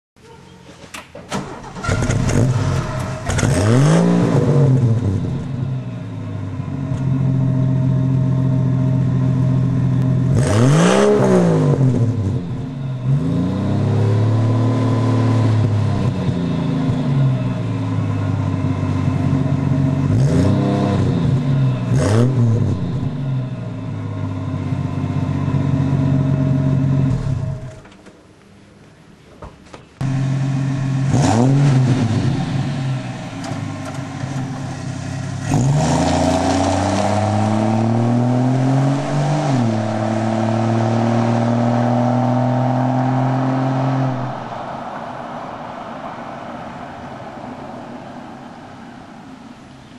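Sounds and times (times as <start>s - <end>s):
car engine idling and revving: 1.3s - 28.4s, 30.0s - 49.9s.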